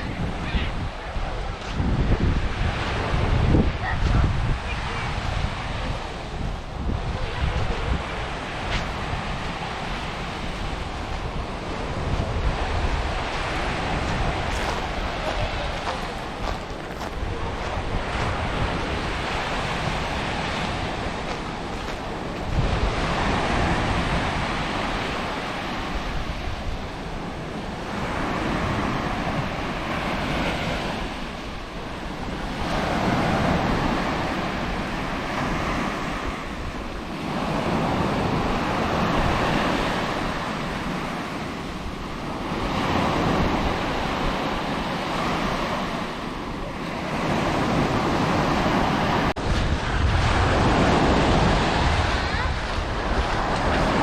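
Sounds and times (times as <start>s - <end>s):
waves breaking on beach: 0.0s - 54.0s
wind buffeting microphone: 0.0s - 54.0s.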